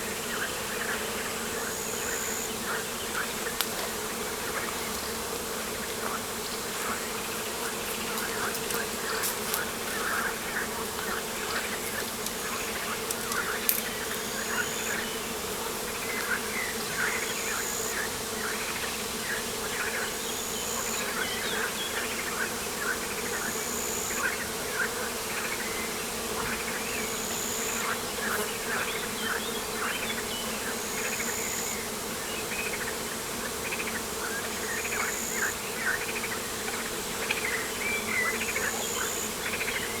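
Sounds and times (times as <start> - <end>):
buzzing of flying insects: 0.0 - 40.0.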